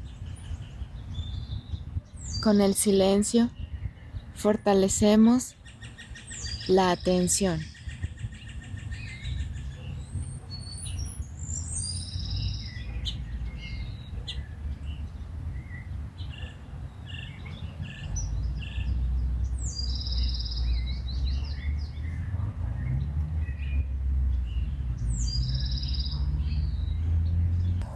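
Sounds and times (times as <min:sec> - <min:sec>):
wild birds chirping: 0:00.0 - 0:27.9.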